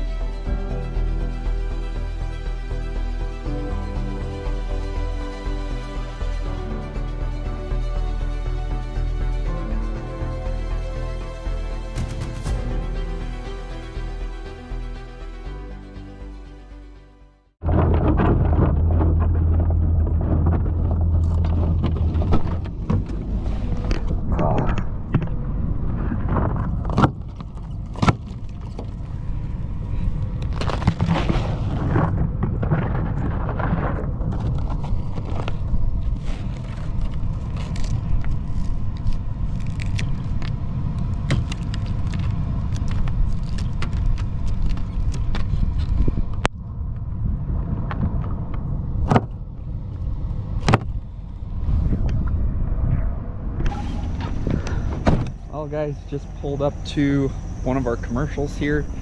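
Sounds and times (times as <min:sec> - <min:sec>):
truck engine and road rumble: 0:00.0 - 0:16.5, 0:17.6 - 0:59.0.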